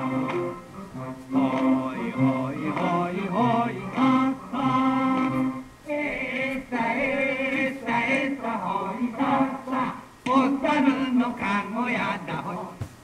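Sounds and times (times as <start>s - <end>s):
musical accompaniment: 0.0s - 11.2s
voices singing: 0.0s - 12.9s.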